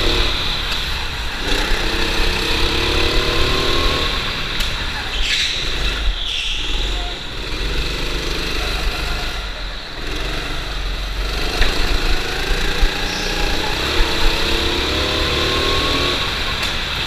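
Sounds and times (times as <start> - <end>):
go-kart engine accelerating: 0.0 - 17.0.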